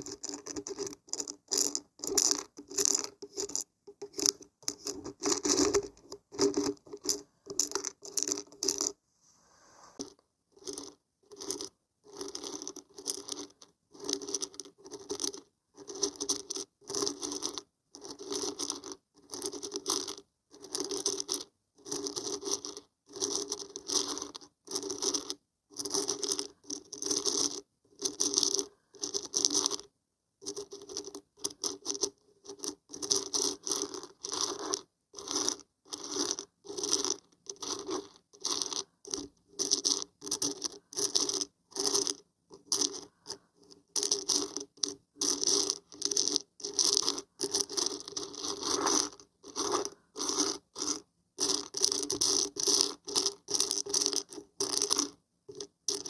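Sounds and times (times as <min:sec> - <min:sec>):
dried beans rattling when shaken: 0:00.0 - 0:09.0, 0:10.0 - 0:29.8, 0:30.4 - 0:56.0.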